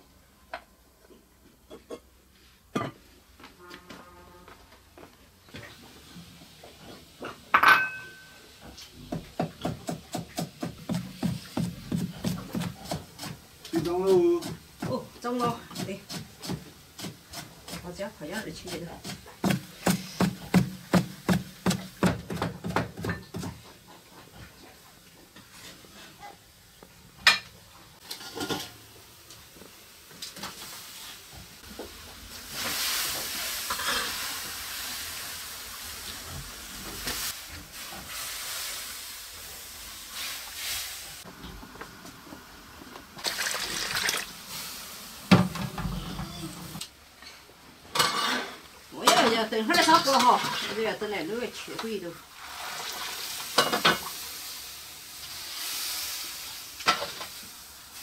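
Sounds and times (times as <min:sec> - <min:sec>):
steam hissing in a wok: 0:05.6 - 0:07.5, 0:08.1 - 0:23.8, 0:28.0 - 0:46.9, 0:48.0 - 0:58.0.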